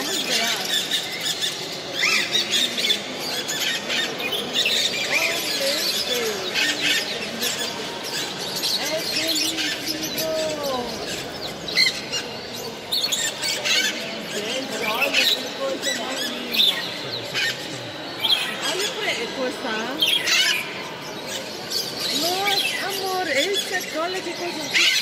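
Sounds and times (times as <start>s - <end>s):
parrots and birds squawking: 0.0s - 25.0s.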